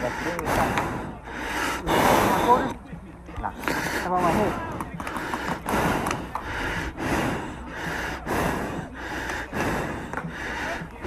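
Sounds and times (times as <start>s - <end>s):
heavy rapid breathing: 0.0s - 2.9s, 3.5s - 11.0s.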